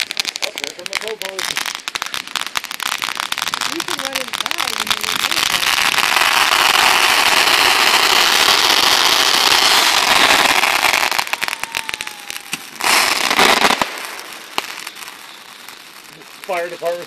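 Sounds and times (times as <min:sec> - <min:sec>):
fireworks crackling: 0:00.0 - 0:17.0
fireworks sharp cracks: 0:00.0 - 0:17.0.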